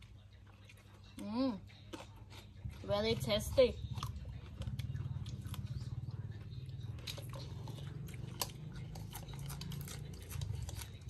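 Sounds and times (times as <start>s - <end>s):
people chewing crunchy food: 0.0s - 11.0s.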